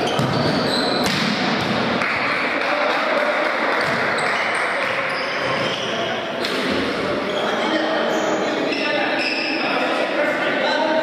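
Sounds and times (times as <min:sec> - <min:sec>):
players' voices echoing: 0:00.0 - 0:11.0.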